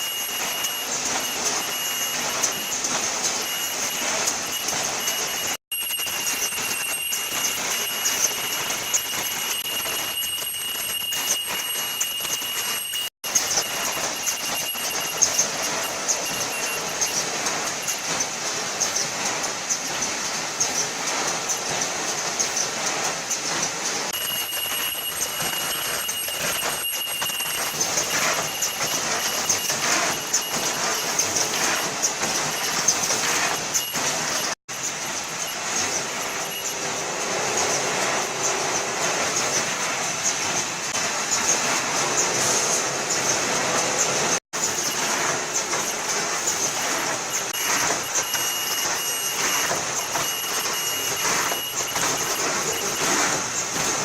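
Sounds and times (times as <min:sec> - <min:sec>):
high machine whine: 0:00.0 - 0:54.0
machine clattering: 0:00.0 - 0:54.0.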